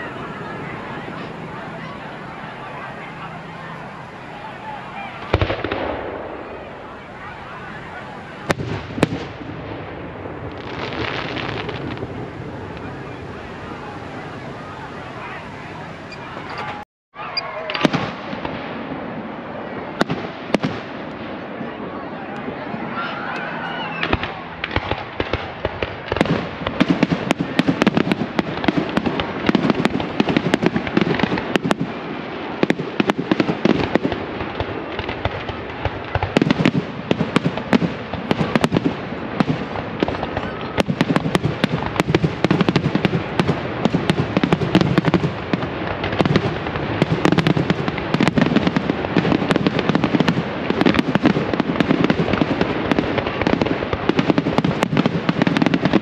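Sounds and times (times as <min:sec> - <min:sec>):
fireworks crackling: 0:00.0 - 0:16.9, 0:17.5 - 0:21.7, 0:22.3 - 0:56.0
fireworks bangs: 0:00.0 - 0:56.0.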